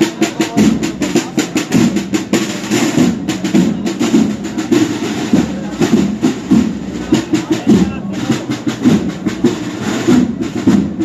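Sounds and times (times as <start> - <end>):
snare drums beating and rolling: 0.0 - 11.0
wind band playing a march: 0.0 - 11.0.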